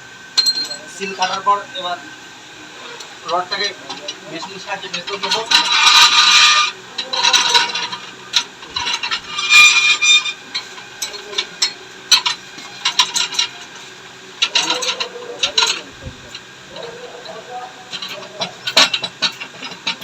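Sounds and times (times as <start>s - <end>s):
metal scraping and rasping: 2.7s - 20.0s.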